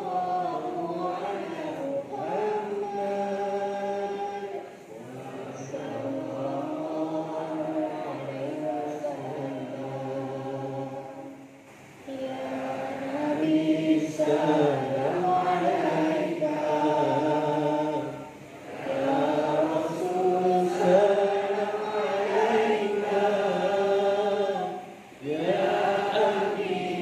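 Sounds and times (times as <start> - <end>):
many voices chanting in unison: 0.0 - 27.0.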